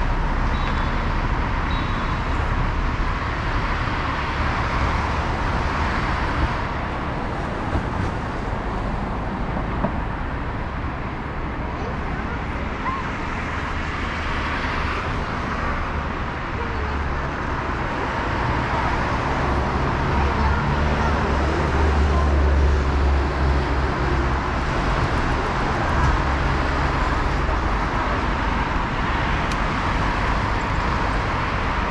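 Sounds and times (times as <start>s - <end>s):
city traffic rumble: 0.0s - 31.9s.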